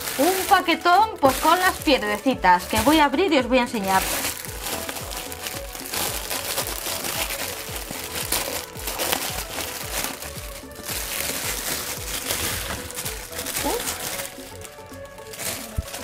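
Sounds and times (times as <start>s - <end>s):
background music with steady beat: 0.0s - 16.0s
plastic packaging crinkling: 0.0s - 16.0s.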